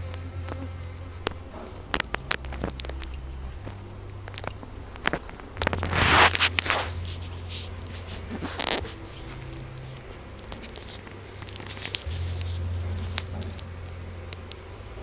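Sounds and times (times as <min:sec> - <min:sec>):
bees humming: 0:00.0 - 0:15.0
scraping rustle: 0:00.0 - 0:15.0.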